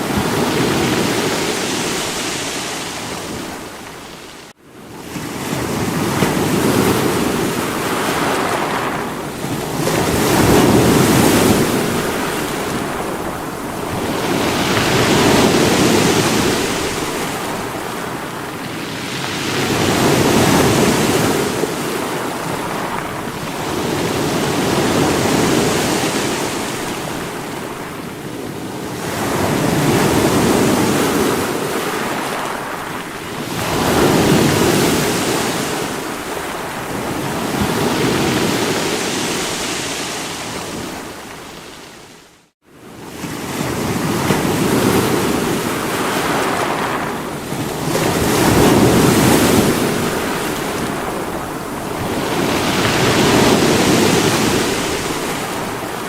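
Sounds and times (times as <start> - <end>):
sea waves against rocks: 0.0 - 42.1, 43.1 - 56.0.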